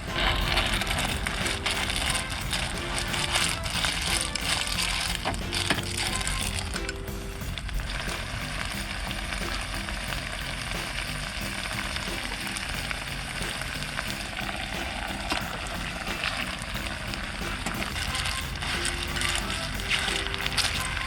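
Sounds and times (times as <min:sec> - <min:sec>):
quiet background music: 0:00.0 - 0:21.0.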